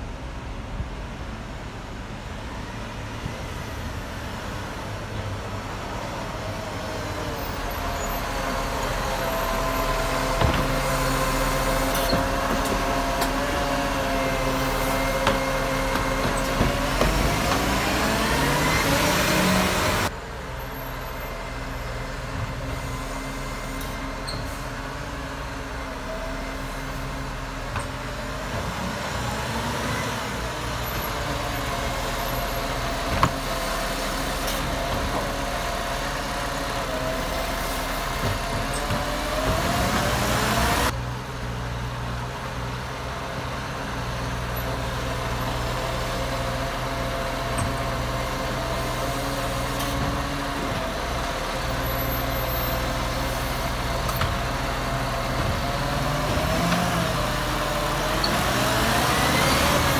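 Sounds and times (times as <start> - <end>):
truck engine and hydraulic hum: 0.0 - 59.9.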